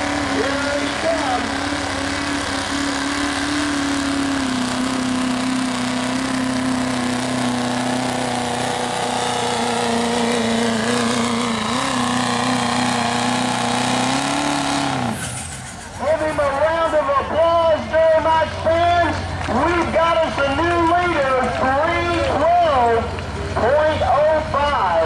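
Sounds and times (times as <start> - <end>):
diesel truck engine at high revs: 0.0 - 25.0.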